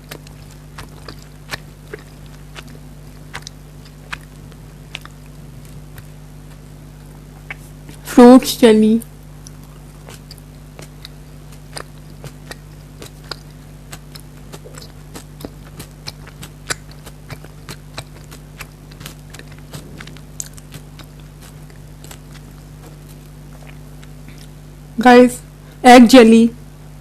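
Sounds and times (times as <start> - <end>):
chewing mouth sounds: 0.0 - 8.0, 9.2 - 24.6
steady low hum: 0.0 - 27.0.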